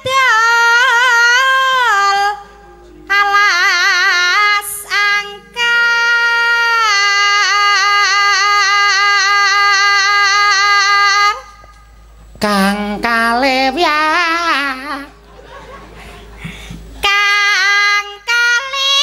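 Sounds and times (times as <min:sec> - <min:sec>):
woman singing into a microphone: 0:00.0 - 0:11.8, 0:12.4 - 0:15.2, 0:17.0 - 0:19.0.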